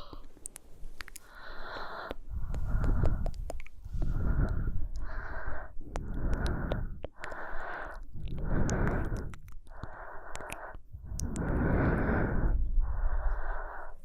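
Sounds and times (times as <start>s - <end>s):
mouth clicks: 0.0s - 13.9s
slow human breathing: 1.2s - 14.0s.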